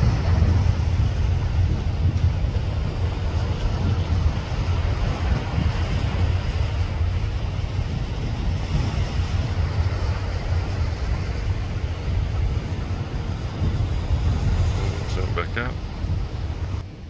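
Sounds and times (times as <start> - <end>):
sea wash: 0.0 - 17.0
wind rumbling over microphone: 0.0 - 17.0.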